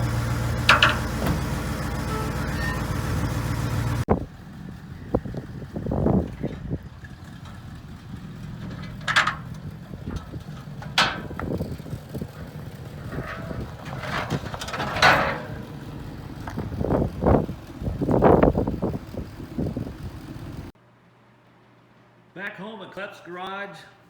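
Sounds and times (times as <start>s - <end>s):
rattles and clanks: 0.0s - 4.1s, 5.2s - 20.7s
vehicle engine humming: 0.0s - 20.8s.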